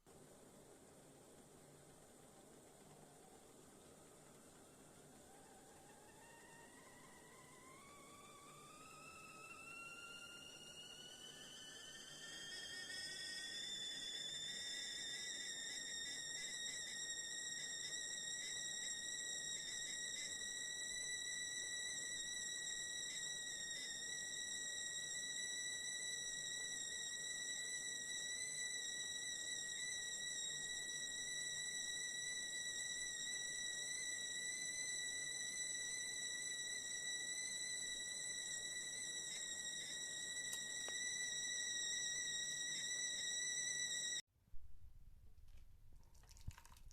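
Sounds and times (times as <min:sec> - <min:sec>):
stovetop kettle whistling: 0:00.0 - 0:44.3.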